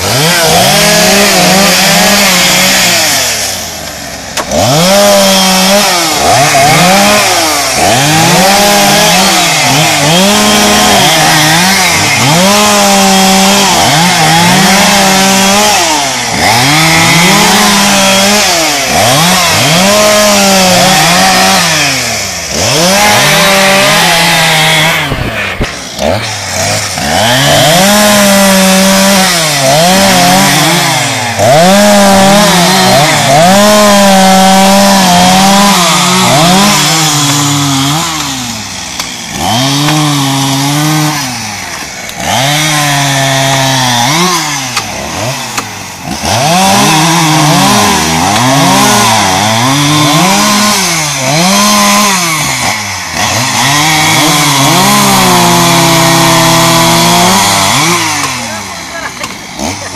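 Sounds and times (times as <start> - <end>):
chainsaws cutting wood: 0.0 - 59.9.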